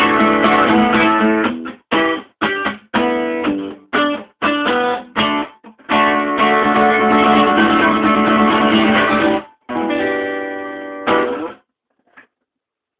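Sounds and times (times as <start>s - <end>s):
guitar strumming chords: 0.0s - 11.6s.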